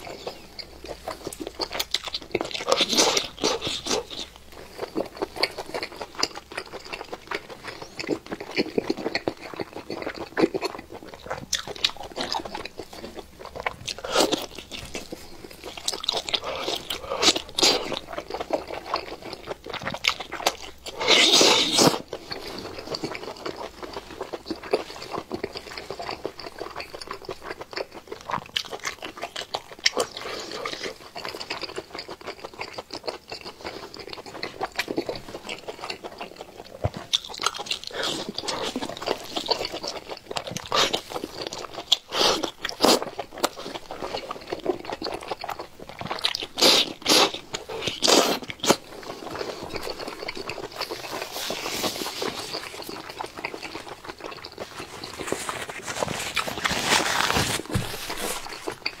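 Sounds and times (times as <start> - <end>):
biting and chewing: 0.0 - 59.0.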